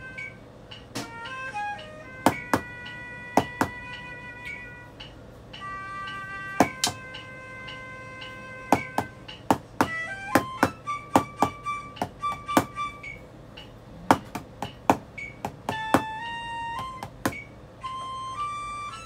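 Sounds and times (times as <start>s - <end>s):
flute melody: 0.0s - 13.7s, 15.2s - 19.0s
drumsticks tapping practice pad: 0.0s - 17.6s.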